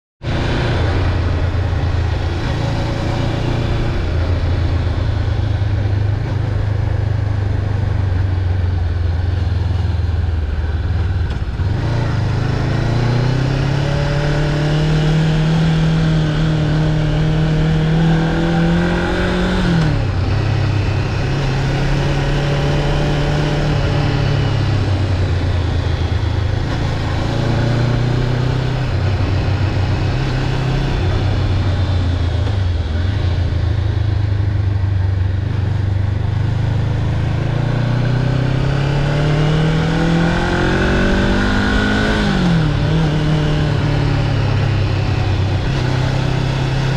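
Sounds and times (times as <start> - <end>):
motorcycle engine running: 0.2 - 46.9.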